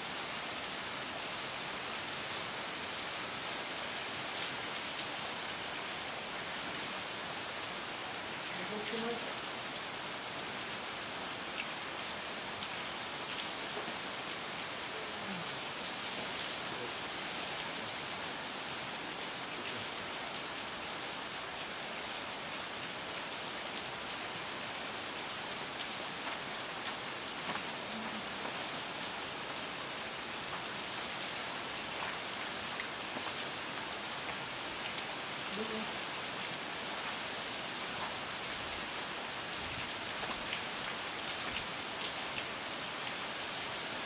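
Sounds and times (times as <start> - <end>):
waterfall hissing: 0.0 - 44.0.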